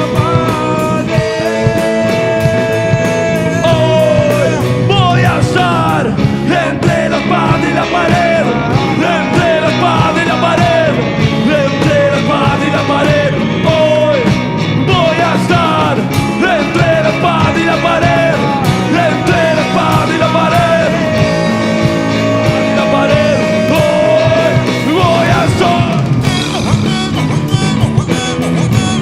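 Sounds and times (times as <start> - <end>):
bending lead guitar melody: 0.0 - 29.0
live rock band instrumental: 0.0 - 29.0.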